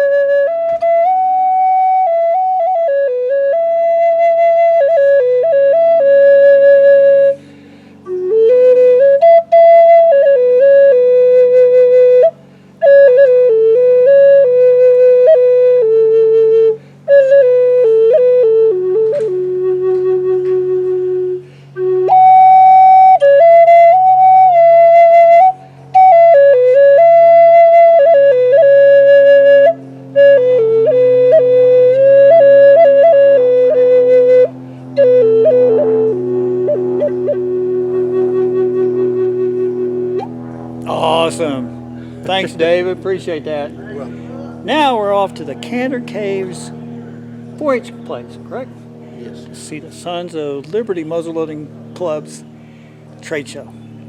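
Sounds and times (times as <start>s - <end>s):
flute playing slow melody: 0.0s - 47.8s.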